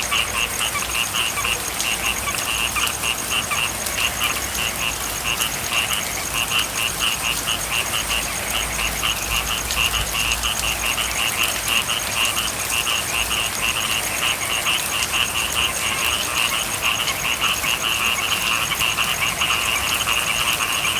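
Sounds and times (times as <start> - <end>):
frogs calling: 0.0 - 20.9.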